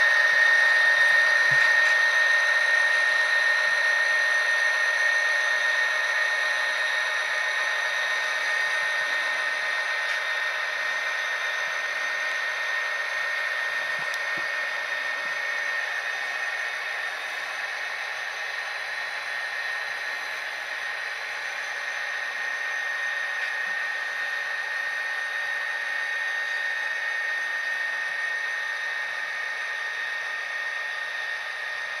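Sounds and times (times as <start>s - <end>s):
model train engine drone: 0.0s - 32.0s.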